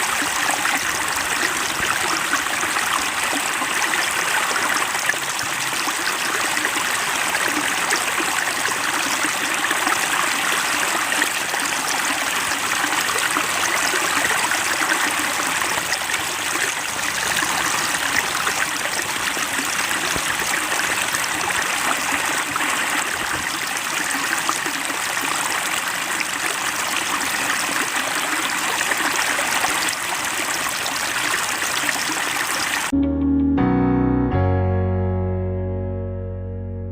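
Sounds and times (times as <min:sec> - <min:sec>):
water trickling into pond: 0:00.0 - 0:32.9.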